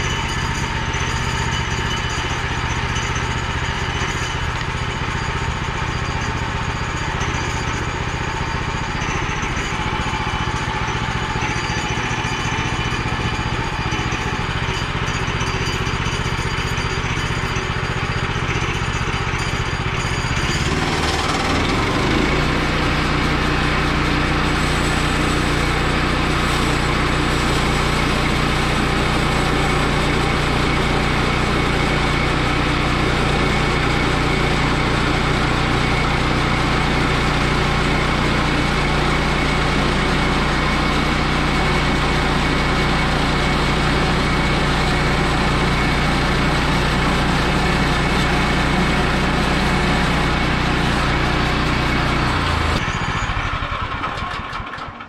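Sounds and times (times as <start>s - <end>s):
band saw cutting log: 0.0s - 55.0s
gasoline engine running: 0.0s - 55.0s.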